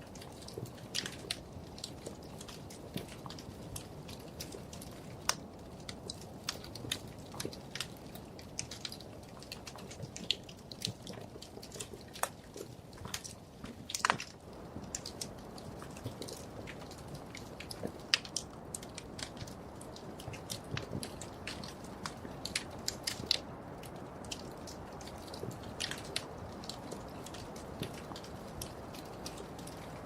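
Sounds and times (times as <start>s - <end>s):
wood fire crackling and popping: 0.0s - 30.0s
low rush of flames: 0.1s - 30.0s.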